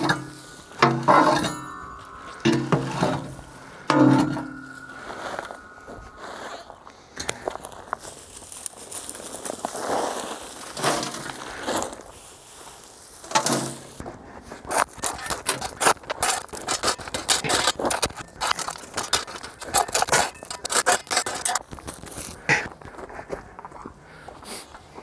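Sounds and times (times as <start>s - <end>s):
rustling: 0.0s - 23.6s
sharp crackles and scrapes: 0.0s - 25.0s.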